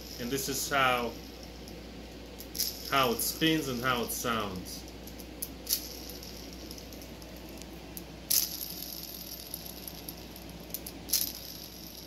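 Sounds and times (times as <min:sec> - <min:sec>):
bearing spinning rolling noise: 0:00.0 - 0:12.0.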